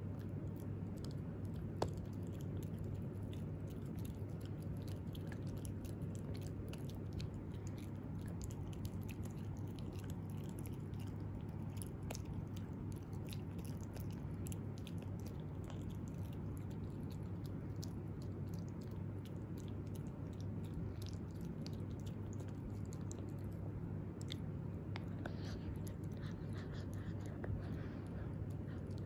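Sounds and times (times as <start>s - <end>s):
puppy chewing crunching: 0.0s - 29.0s.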